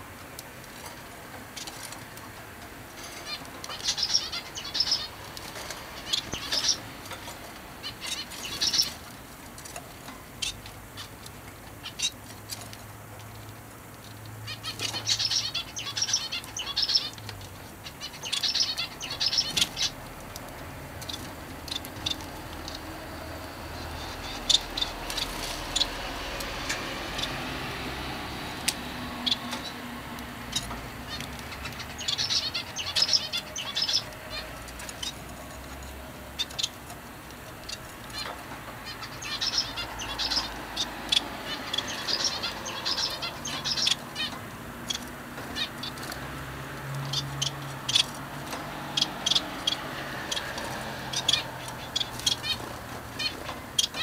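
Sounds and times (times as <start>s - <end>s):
finches chirping: 3.0s - 9.2s, 10.4s - 12.2s, 14.5s - 17.2s, 17.8s - 20.3s, 21.0s - 35.4s, 36.1s - 54.0s.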